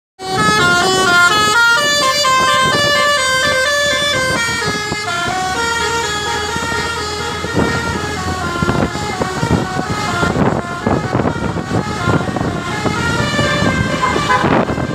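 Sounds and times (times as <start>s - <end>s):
bus horn playing a melody: 0.2s - 14.9s.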